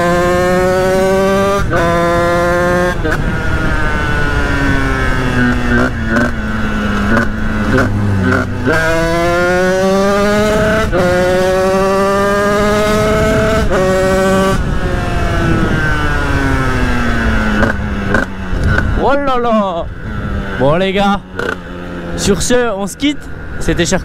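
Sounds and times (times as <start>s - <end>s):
two-stroke motorcycle engine revving: 0.0s - 24.0s.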